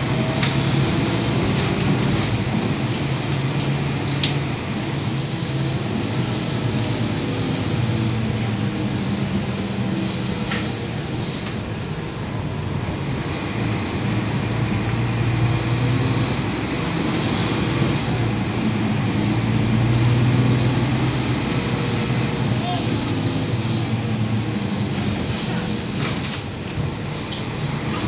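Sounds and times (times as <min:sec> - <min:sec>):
bus diesel engine: 0:00.0 - 0:28.0
road and tyre noise: 0:00.0 - 0:28.0.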